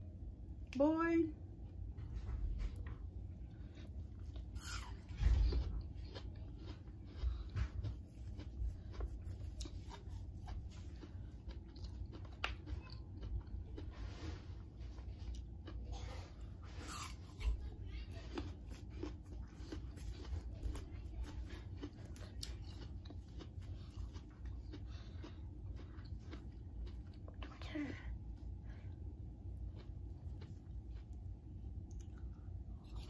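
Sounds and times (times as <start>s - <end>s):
apple being bitten and chewed: 2.6s - 27.9s, 29.3s - 33.0s.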